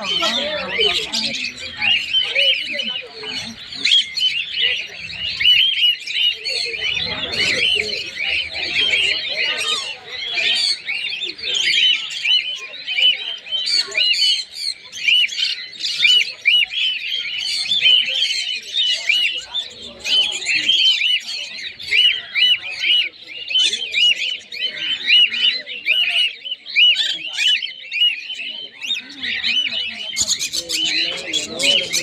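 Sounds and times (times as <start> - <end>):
flock of small birds chirping: 0.0 - 32.0.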